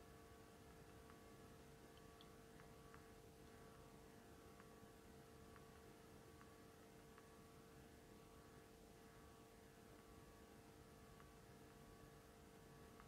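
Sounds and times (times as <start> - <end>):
faint electrical hum: 0.0 - 13.0
faint ticks: 0.0 - 13.0.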